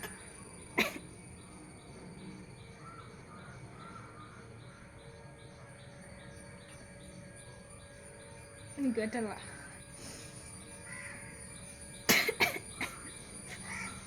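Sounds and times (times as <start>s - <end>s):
constant high whine: 0.0s - 14.0s
insects chirping: 0.0s - 14.0s.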